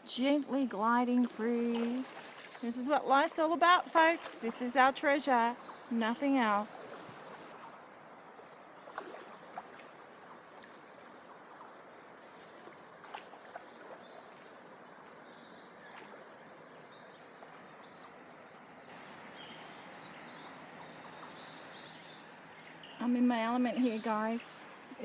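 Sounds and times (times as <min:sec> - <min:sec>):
flowing river water: 0:00.0 - 0:25.0.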